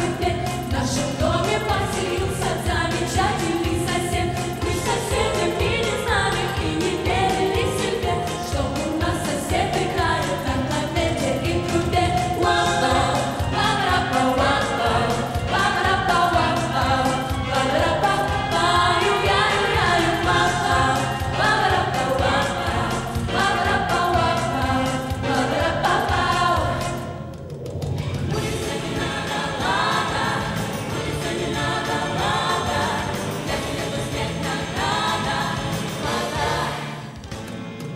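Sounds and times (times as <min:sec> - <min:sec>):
female vocal group singing: 0:00.0 - 0:27.2, 0:28.3 - 0:37.2
pop instrumental with drum beat: 0:00.0 - 0:37.9.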